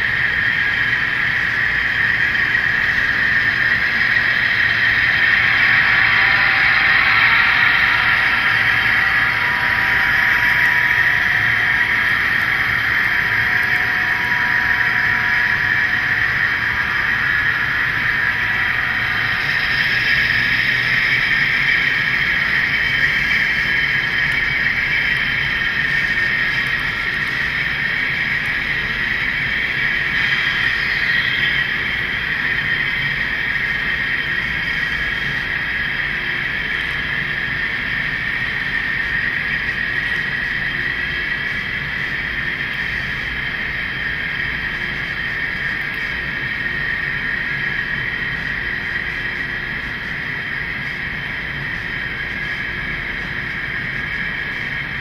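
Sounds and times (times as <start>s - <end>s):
model train whirring on rails: 0.0s - 55.0s.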